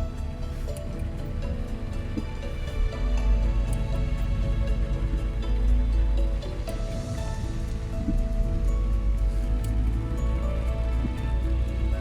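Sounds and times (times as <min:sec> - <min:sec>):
deep low bass: 0:00.0 - 0:12.0
sustained music notes: 0:00.0 - 0:12.0.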